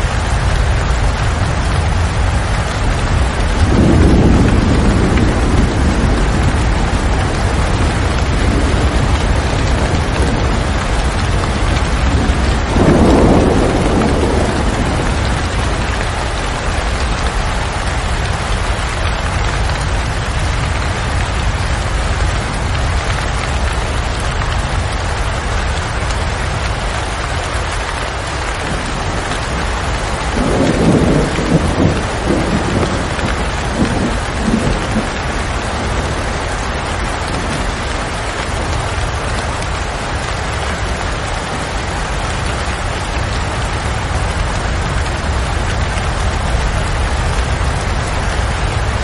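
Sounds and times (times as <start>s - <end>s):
heavy rain falling: 0.0s - 49.0s
thunder rumbling: 0.0s - 49.0s.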